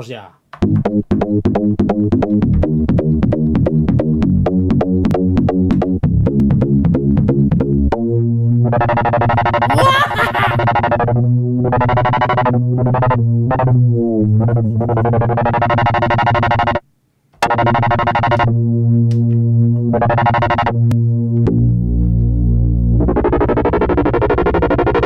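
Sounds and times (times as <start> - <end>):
synthesizer chords over bass: 0.6 - 9.4, 10.6 - 15.3, 18.4 - 25.0.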